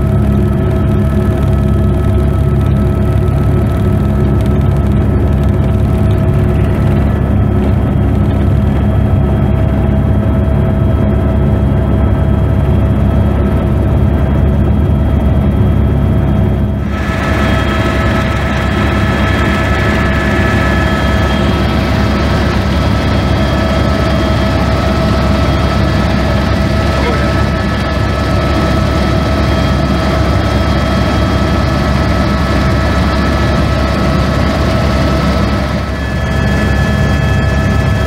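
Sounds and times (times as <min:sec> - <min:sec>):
helicopter engine and rotors drone: 0:00.0 - 0:38.0.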